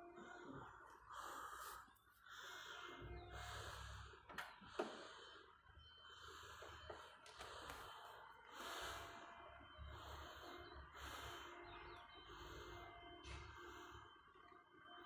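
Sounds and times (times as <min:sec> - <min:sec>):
faint breathing: 0:00.0 - 0:15.0.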